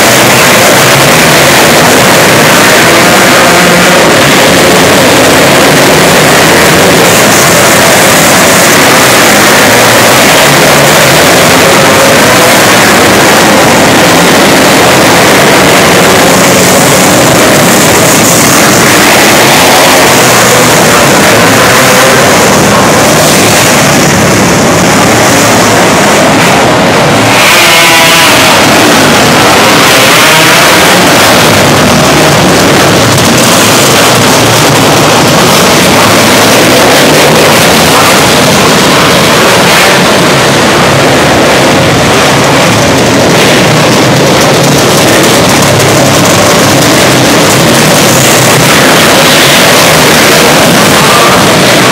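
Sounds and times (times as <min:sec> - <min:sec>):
race car engines running: 0:00.0 - 0:51.9.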